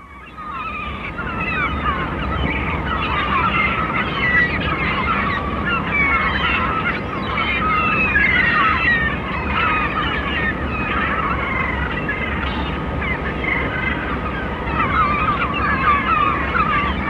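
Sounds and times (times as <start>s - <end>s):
seagulls calling: 0.0s - 17.0s.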